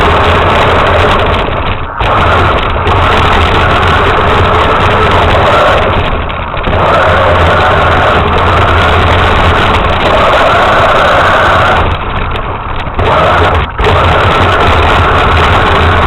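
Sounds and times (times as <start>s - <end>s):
rc truck motor running: 0.0s - 16.0s.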